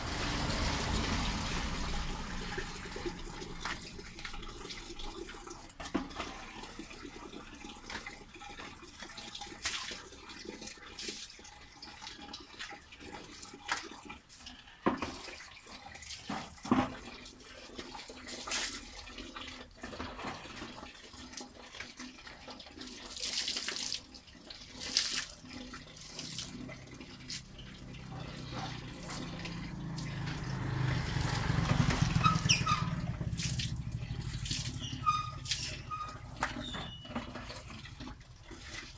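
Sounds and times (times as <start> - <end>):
water splashing onto concrete: 0.0 - 38.9.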